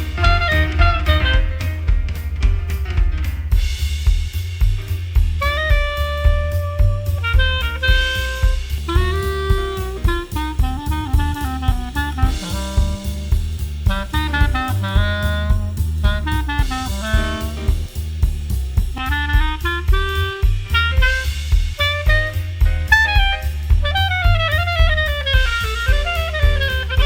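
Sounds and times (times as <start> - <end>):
saxophone fast melody: 0.0 - 2.2, 5.4 - 27.0
bass: 0.0 - 27.0
drum kit beat: 0.0 - 27.0.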